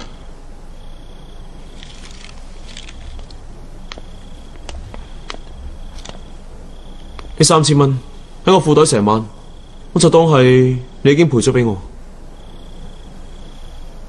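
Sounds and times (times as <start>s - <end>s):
faint insect trill: 0.0s - 14.0s.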